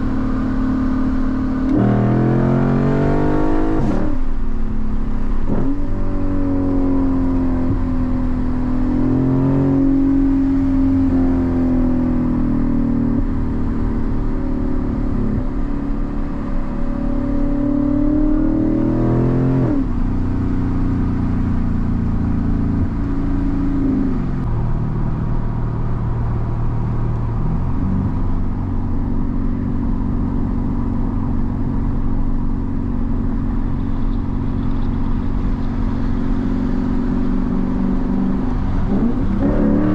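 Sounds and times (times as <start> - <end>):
car engine revving under throttle: 0.0 - 39.9.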